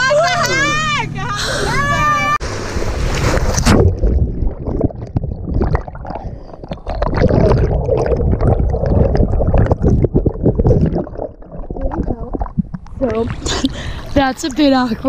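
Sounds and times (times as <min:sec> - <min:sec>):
water churning and bubbling: 0:00.0 - 0:15.0.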